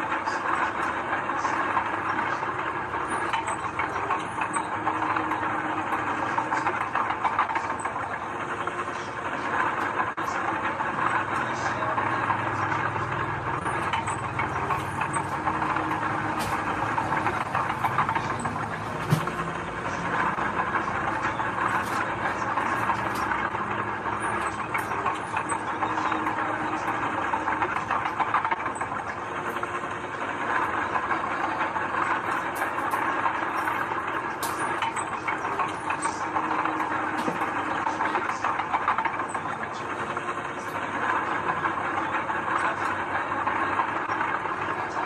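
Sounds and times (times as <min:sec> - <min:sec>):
earthmoving machinery running: 0:00.0 - 0:45.0.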